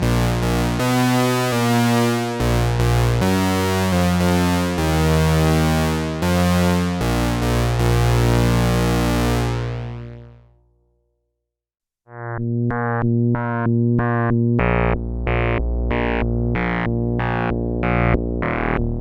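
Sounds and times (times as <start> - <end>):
buzzy synthesizer notes: 0.0 - 10.4, 12.1 - 19.0.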